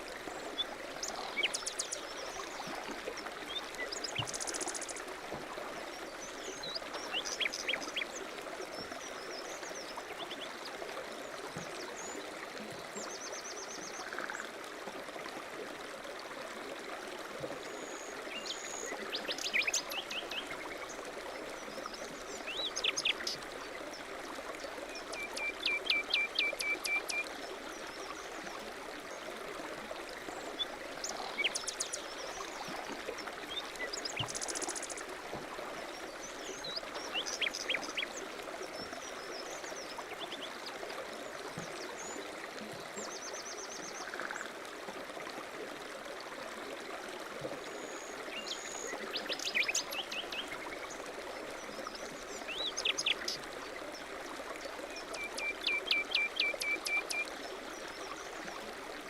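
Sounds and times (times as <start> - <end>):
mountain stream running: 0.0 - 59.0.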